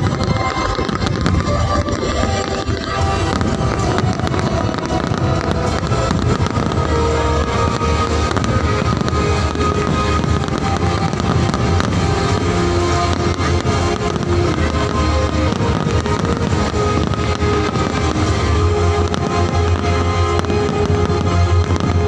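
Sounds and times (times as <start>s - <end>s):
fireworks bangs and crackles: 0.0s - 22.0s
loud music: 0.0s - 22.0s.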